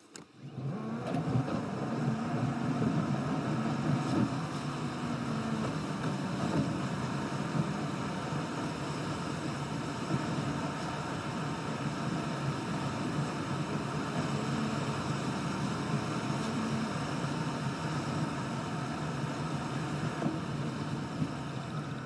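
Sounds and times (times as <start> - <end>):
car interior road noise: 0.6 - 22.0.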